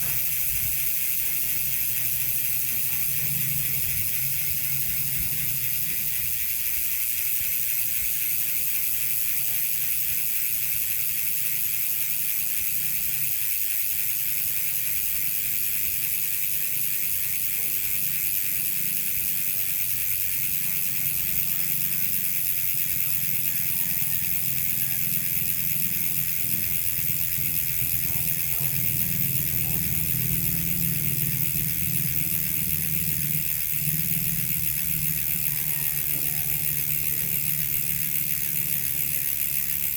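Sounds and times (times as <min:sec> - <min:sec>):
bicycle hub ratchet clicking: 0:00.0 - 0:39.9.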